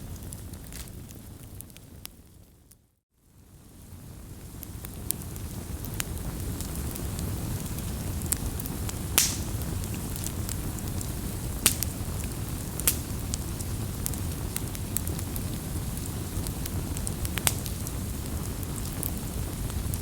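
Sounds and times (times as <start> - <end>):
wood fire rumbling: 0.0 - 2.8, 3.4 - 20.0
fire crackles and pops: 0.0 - 20.0.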